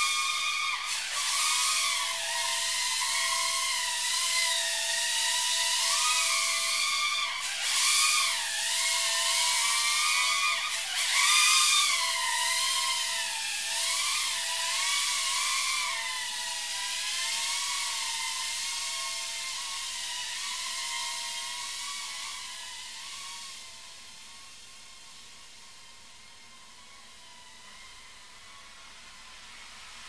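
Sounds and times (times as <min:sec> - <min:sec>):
micro quadcopter motors whining: 0:00.0 - 0:30.0.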